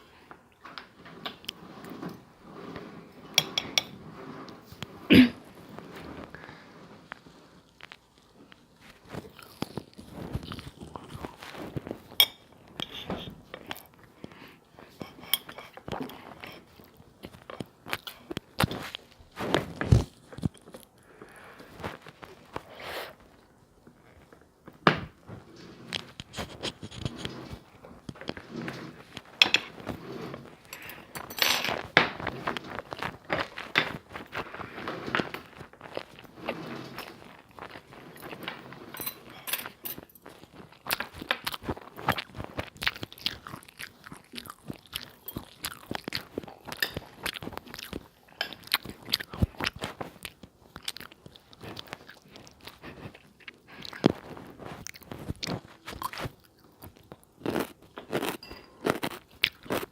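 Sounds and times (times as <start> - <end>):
person chewing food: 7.2 - 12.2, 12.8 - 22.8, 25.9 - 59.9.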